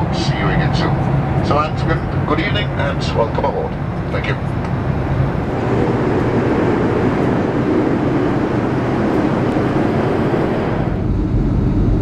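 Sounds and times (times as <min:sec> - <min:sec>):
jet engines and rushing air: 0:00.0 - 0:12.0.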